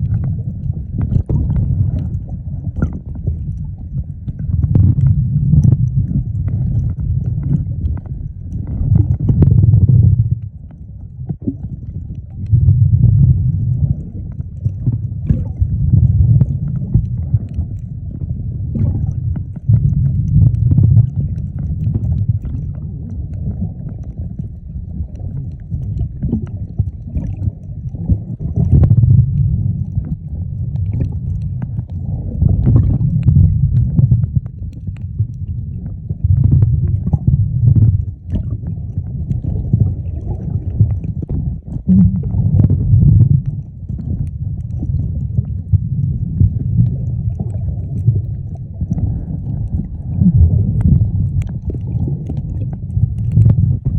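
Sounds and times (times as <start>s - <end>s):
muffled underwater rumble: 0.0s - 53.9s.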